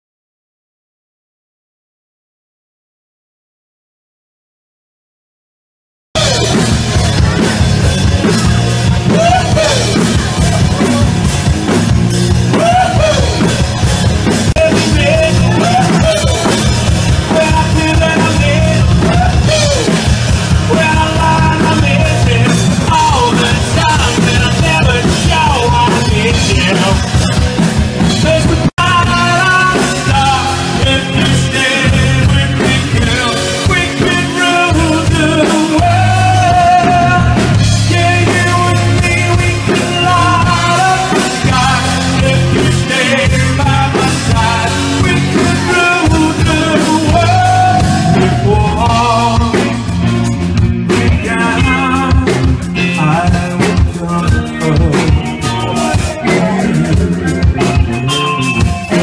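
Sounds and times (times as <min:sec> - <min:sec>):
live rock band playing: 0:06.2 - 0:59.0
person singing: 0:06.2 - 0:59.0.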